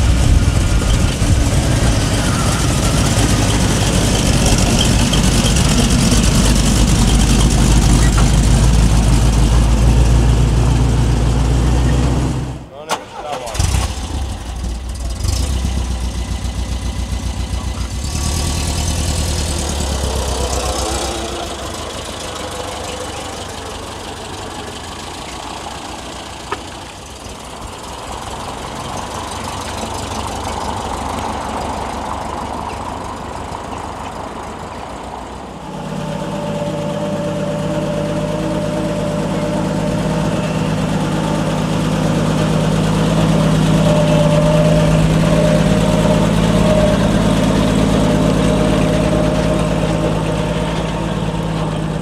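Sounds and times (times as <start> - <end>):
engines idling with pulsing lope: 0.0 - 52.0
steady engine note: 0.0 - 52.0.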